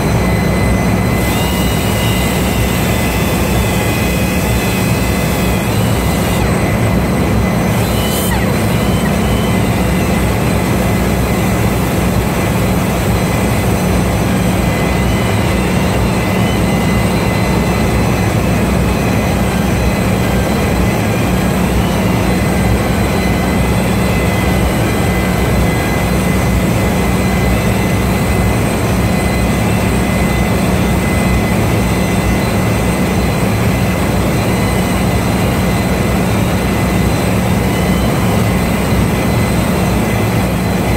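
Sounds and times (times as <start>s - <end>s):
rotary power tool whining: 0.0s - 40.9s.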